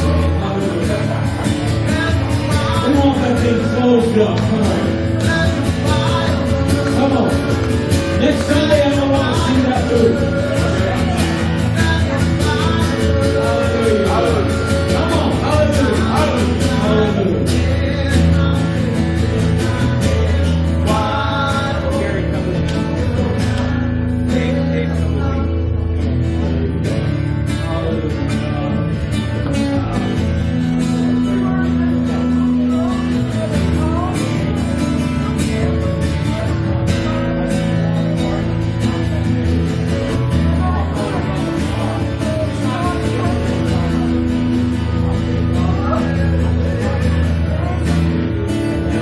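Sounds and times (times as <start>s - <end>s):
people singing: 0.0s - 25.6s, 29.5s - 49.0s
live band with guitar: 0.0s - 49.0s.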